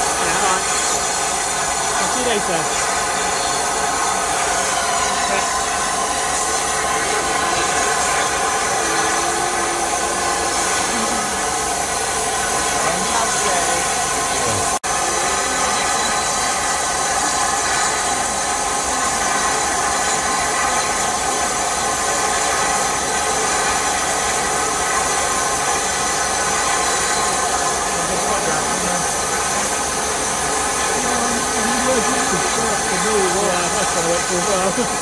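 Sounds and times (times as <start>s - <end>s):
steam hissing from locomotive: 0.0s - 35.0s.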